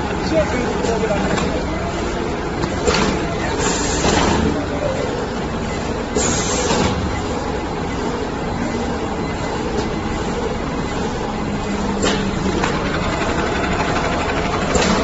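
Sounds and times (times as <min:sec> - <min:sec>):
bag-making machine humming: 0:00.0 - 0:15.0.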